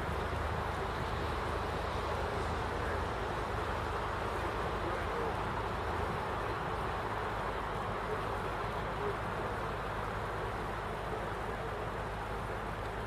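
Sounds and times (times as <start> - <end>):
boat rumbling under way: 0.0 - 13.0.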